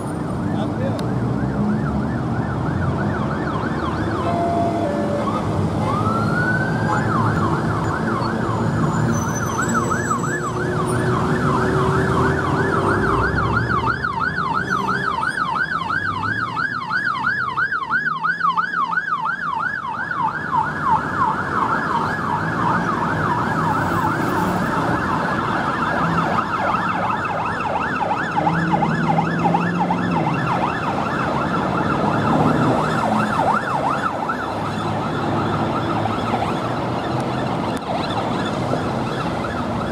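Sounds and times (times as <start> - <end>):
passing traffic: 0.0 - 39.9
siren wailing and yelping: 0.4 - 39.9.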